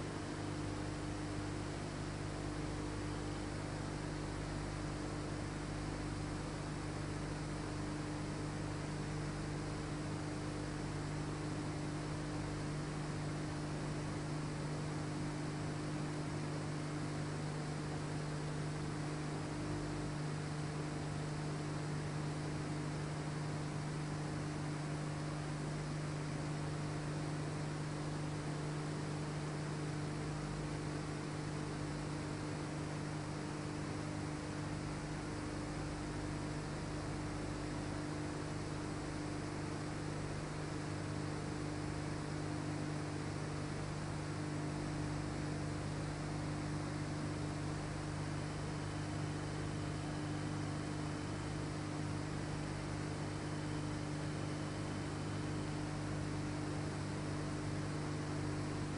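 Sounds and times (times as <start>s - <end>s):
electrical mains hum: 0.0s - 58.9s.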